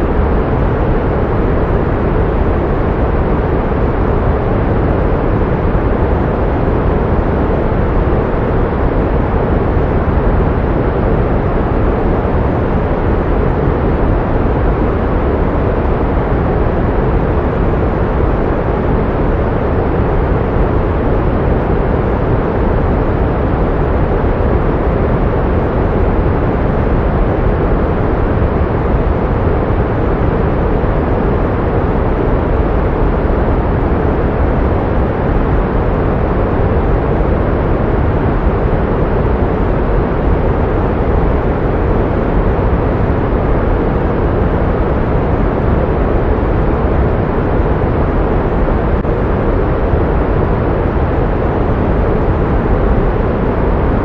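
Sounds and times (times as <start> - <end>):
pink noise: 0.0 - 54.0.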